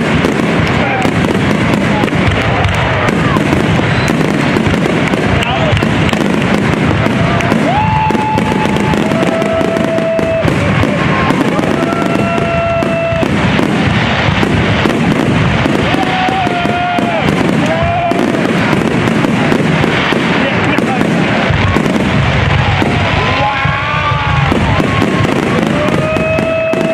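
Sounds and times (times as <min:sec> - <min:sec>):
fireworks crackling and popping: 0:00.0 - 0:26.9
fireworks whistling: 0:00.0 - 0:26.9.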